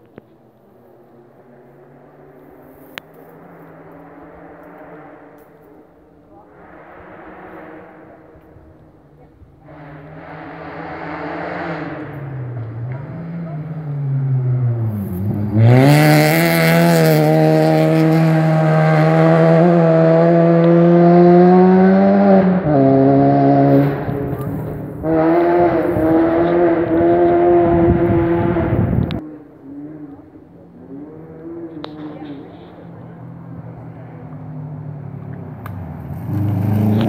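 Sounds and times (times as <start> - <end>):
rally car engine revving: 1.0 - 37.0.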